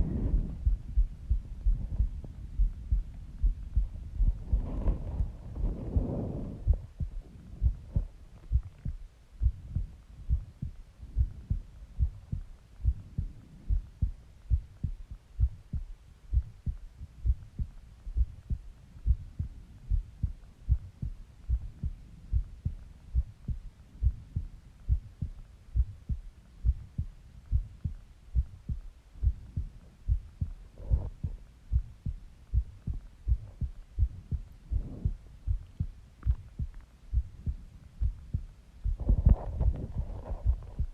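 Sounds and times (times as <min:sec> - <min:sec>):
heartbeat thumps: 0:00.0 - 0:40.9.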